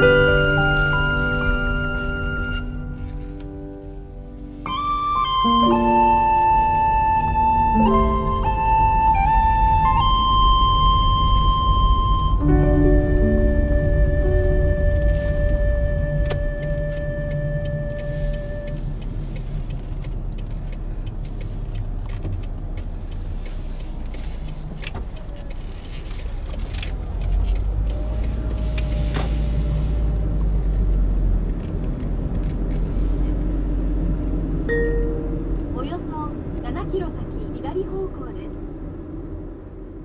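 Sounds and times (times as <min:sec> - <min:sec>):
engine and tyre rumble: 0:00.0 - 0:40.0.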